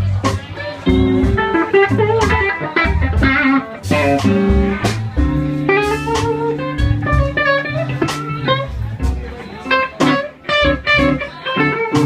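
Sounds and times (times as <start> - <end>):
electric guitar lead: 0.0 - 12.0
live blues band playing: 0.0 - 12.0.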